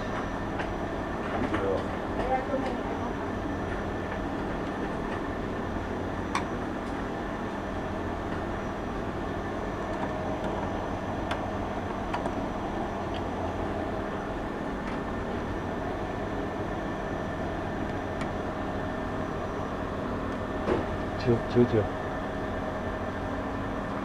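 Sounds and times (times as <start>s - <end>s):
machinery hum: 0.0s - 24.0s.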